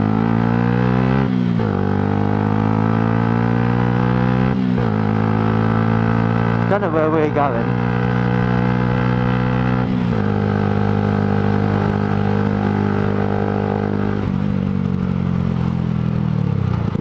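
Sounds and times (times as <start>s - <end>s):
motorcycle engine and exhaust: 0.0s - 17.0s.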